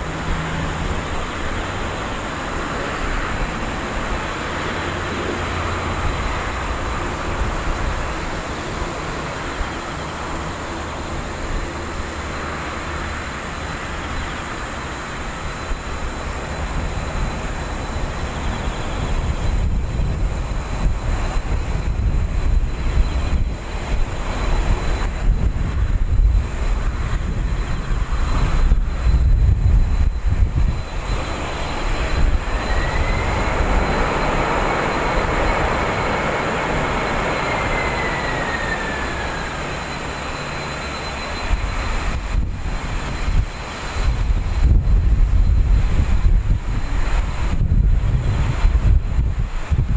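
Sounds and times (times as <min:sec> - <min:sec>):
deep rumbling roar of jet: 0:00.0 - 0:49.9
jet engine whine: 0:00.0 - 0:49.9.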